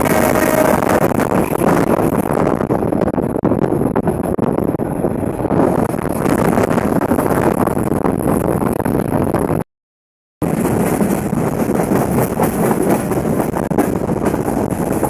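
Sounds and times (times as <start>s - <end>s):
moving passenger train rumble: 0.0s - 9.6s, 10.4s - 15.0s
wind buffeting microphone: 0.0s - 9.7s, 10.4s - 15.0s.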